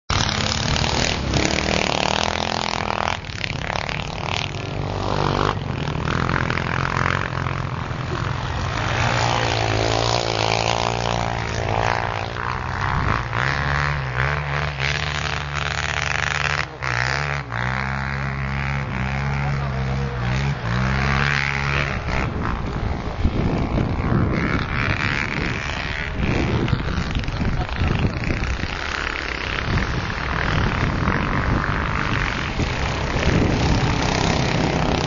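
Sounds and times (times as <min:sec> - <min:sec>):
motorcycle engines revving: 0:00.1 - 0:35.0.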